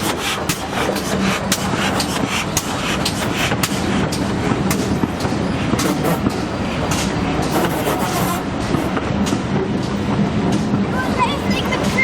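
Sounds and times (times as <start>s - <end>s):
steam train rumble: 0.0s - 12.0s
train clanks and knocks: 0.0s - 12.0s.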